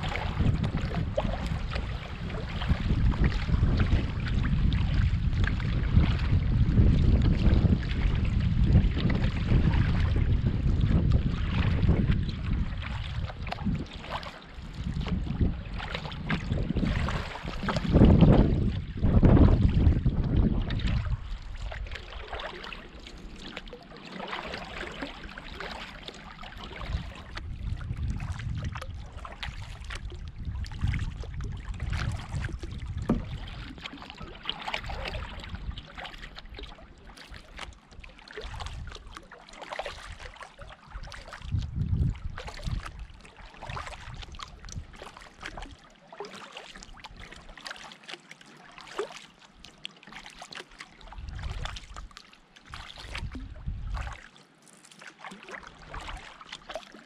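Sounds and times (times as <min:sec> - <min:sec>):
paddle strokes in water: 0:00.0 - 0:57.0
water trickling and gurgling: 0:00.0 - 0:57.0.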